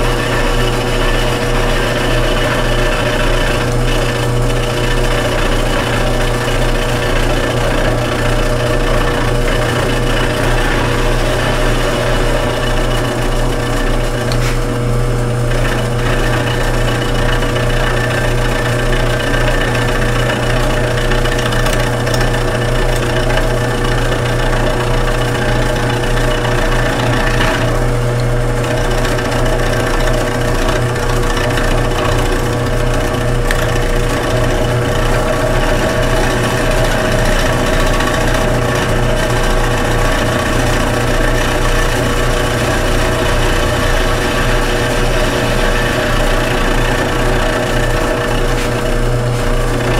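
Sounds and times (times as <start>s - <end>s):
milling machine motor hum: 0.0s - 49.9s.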